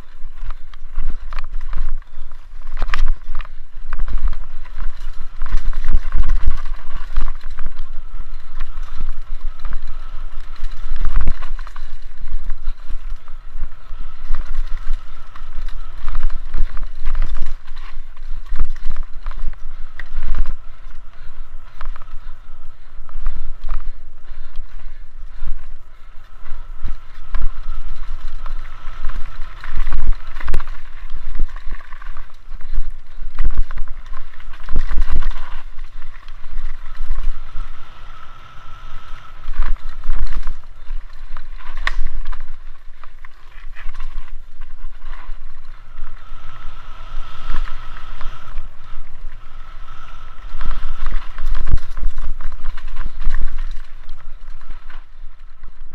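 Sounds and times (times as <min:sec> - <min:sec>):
bike clattering and rattling: 0:00.0 - 0:55.9
tyre noise on dirt: 0:00.0 - 0:55.9
wind buffeting microphone: 0:00.0 - 0:55.9.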